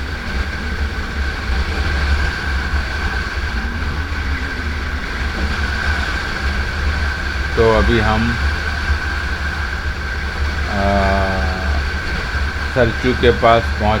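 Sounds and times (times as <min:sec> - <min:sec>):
high whine: 0:00.0 - 0:14.0
motorcycle engine and road drone: 0:00.0 - 0:14.0
wind rumble on microphone: 0:00.0 - 0:14.0.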